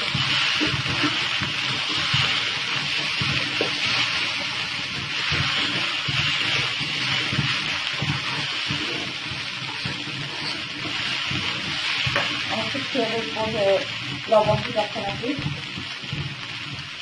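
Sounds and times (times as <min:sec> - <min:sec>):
noodles sizzling in a wok: 0:00.0 - 0:17.0
spatula scraping and knocking pan: 0:00.0 - 0:17.0.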